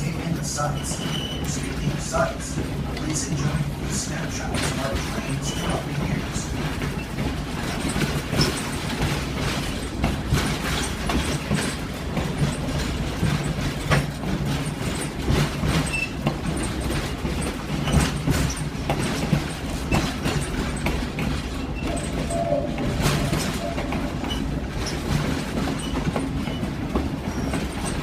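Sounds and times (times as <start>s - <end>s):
train rumbling: 0.0s - 28.0s
wheels clacking over rail joints: 0.0s - 28.0s.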